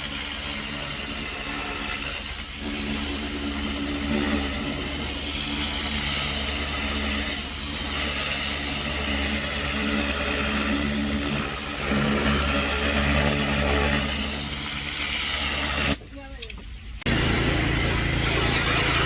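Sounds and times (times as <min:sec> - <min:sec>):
even hiss: 0:00.0 - 0:19.0
small engine running: 0:00.0 - 0:19.0.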